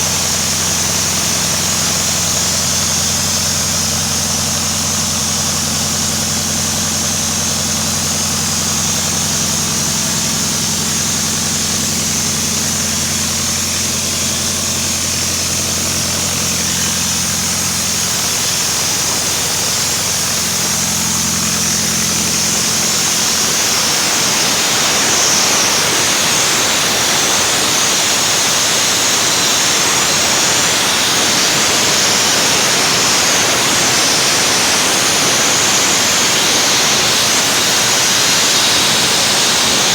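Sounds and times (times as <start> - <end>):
compressor high hiss: 0.0 - 39.9
engine hum: 0.0 - 39.9.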